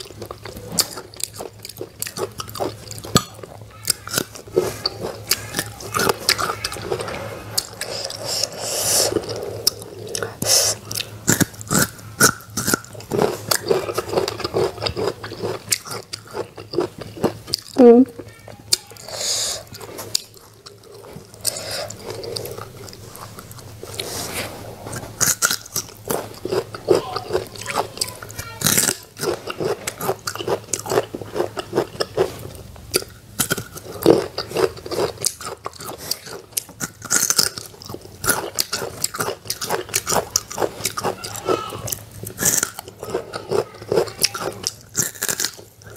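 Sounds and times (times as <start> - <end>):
fruit crunching and chewing: 0.0 - 45.9.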